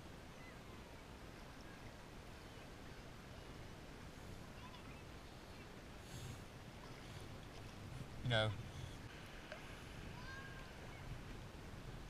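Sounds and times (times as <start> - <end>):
water lapping against kayak: 0.6 - 12.0.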